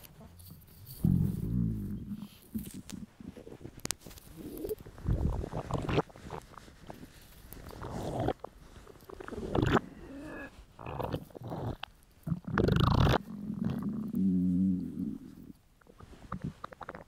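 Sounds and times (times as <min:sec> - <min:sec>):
stomach rumbling and gurgling: 0:00.0 - 0:17.0.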